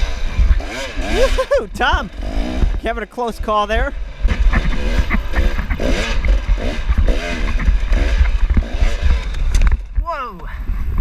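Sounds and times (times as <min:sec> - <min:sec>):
dirt bike engines revving: 0:00.0 - 0:11.0
heavy low rumble: 0:00.0 - 0:11.0.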